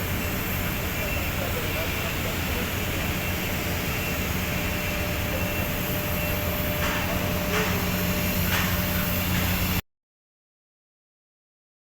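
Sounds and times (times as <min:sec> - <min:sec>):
welding hiss: 0:00.0 - 0:09.8.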